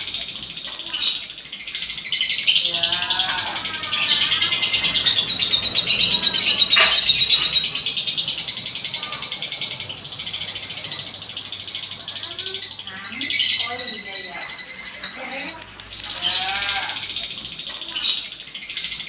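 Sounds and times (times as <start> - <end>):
lovebird chattering trill: 0.0 - 19.0.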